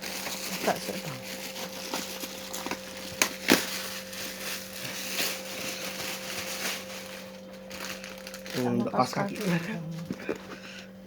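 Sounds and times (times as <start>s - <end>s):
plastic packaging crinkling: 0.0s - 11.0s
steady low hum: 0.0s - 11.0s.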